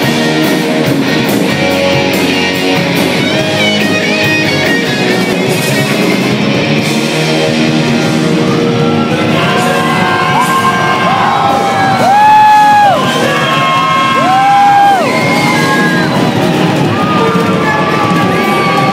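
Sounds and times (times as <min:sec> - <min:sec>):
live rock band: 0:00.0 - 0:18.9.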